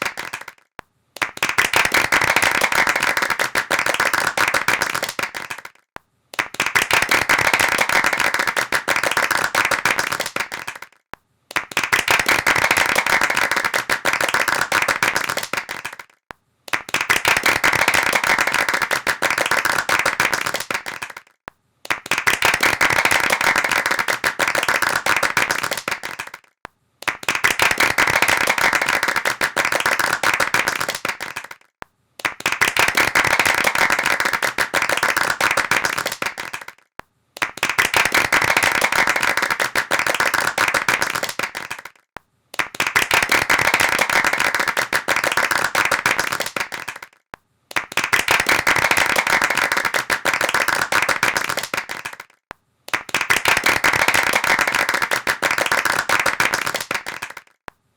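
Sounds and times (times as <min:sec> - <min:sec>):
hands clapping fast: 0:00.0 - 0:57.8.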